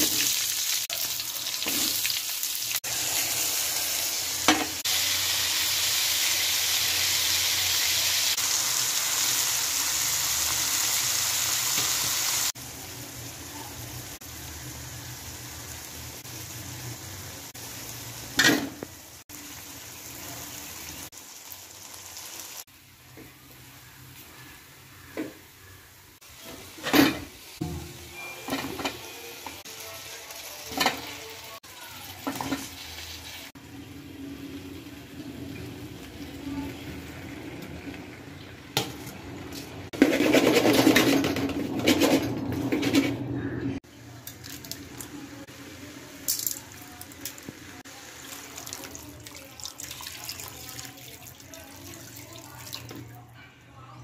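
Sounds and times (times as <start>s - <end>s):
onions sizzling in oil: 0.0s - 39.9s, 43.8s - 52.7s.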